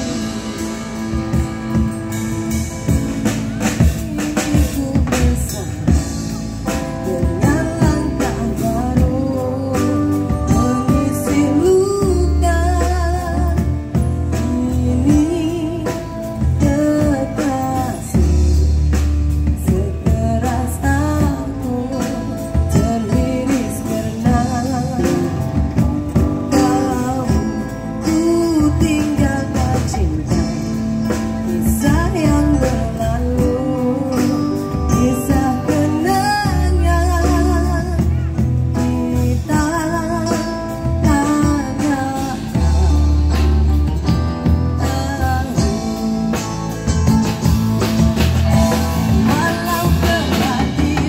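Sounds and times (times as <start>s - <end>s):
live band playing: 0.0s - 51.0s
woman singing with vibrato: 0.0s - 51.0s.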